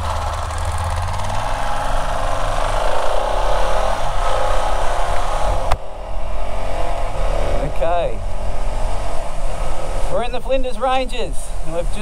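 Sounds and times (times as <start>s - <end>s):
motorcycle engine accelerating: 0.0s - 12.0s
wind rushing over microphone: 1.0s - 12.0s.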